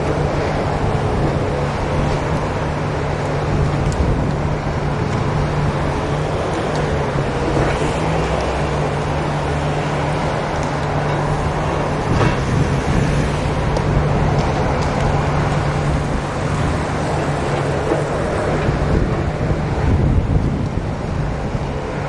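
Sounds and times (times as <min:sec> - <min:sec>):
heavy engine droning: 0:00.0 - 0:22.0
rushing noise: 0:00.0 - 0:22.0.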